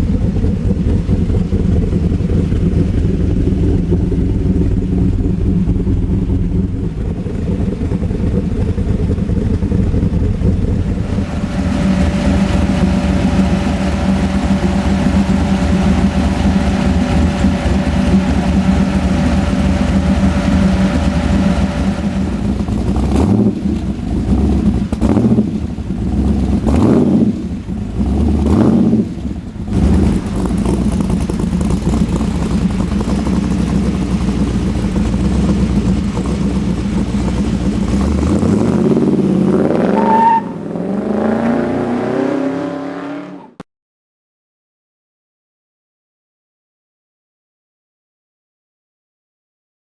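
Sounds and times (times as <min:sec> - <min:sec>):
vee eight engine idling and revving: 0:00.0 - 0:43.6.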